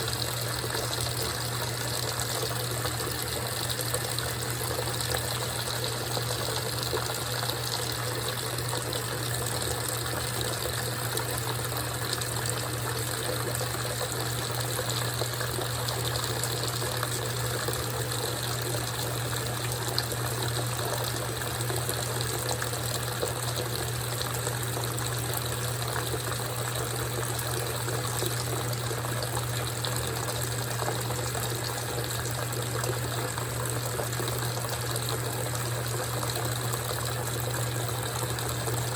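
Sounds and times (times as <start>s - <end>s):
washing machine hum: 0.0s - 38.9s
water swishing in washing machine: 0.0s - 38.9s.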